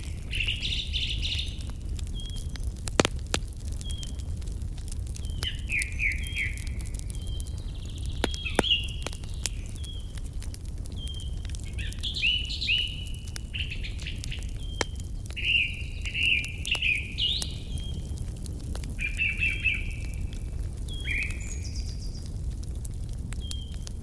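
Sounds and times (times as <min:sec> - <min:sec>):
songbirds chirping and singing: 0:00.0 - 0:02.6, 0:05.1 - 0:18.2, 0:18.8 - 0:22.4
wood fire crackling and popping: 0:00.0 - 0:24.0.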